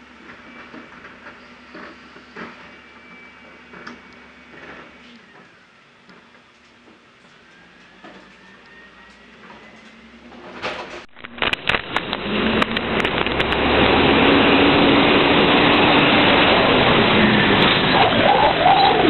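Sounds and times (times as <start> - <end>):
garbage truck diesel engine: 0.0 - 19.0.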